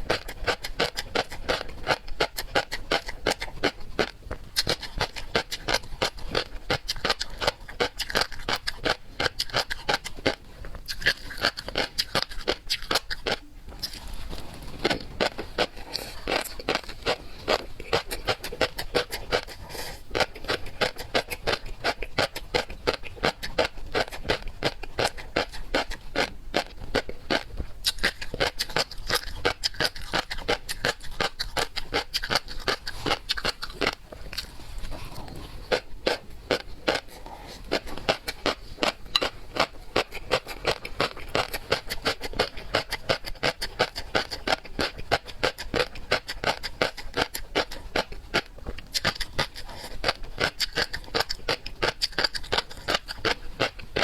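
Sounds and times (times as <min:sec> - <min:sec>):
wet chewing mouth clicks: 0:00.0 - 0:54.0.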